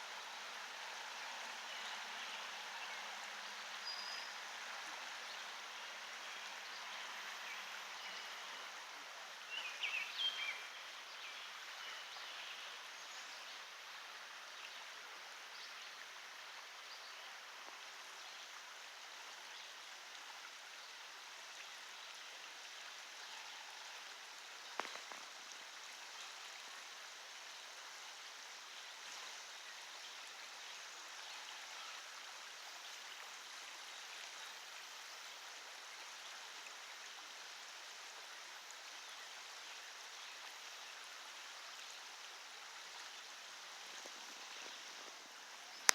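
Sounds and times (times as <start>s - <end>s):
creek water flowing over rocks: 0.0s - 45.9s.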